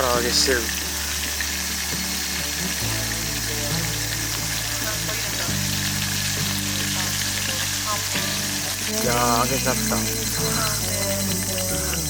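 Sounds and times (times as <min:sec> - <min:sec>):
deep-frying crackling sizzle: 0:00.0 - 0:12.0.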